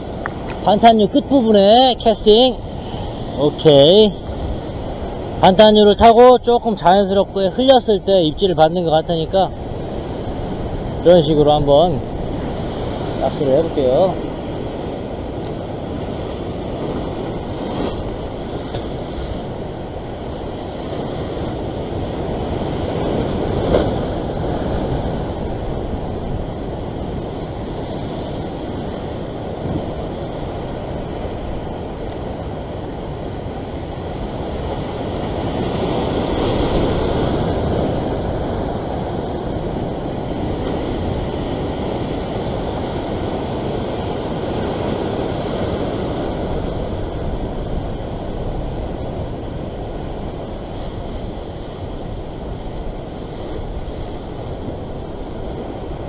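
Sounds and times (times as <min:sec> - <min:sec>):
surf washing over rocks: 0:00.0 - 0:56.0
wind on microphone: 0:00.0 - 0:56.0.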